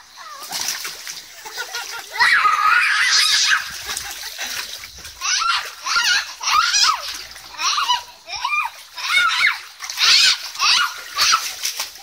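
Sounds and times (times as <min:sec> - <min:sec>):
water splashing in pool: 0:00.0 - 0:12.0.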